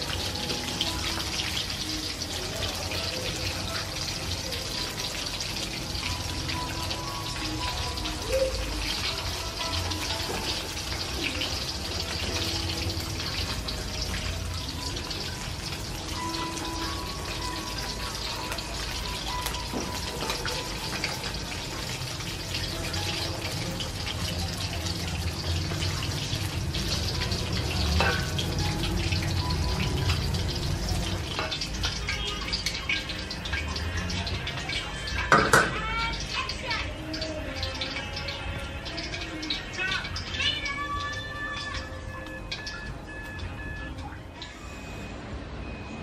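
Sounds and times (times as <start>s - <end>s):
chicken frying in hot oil: 0.0s - 46.0s.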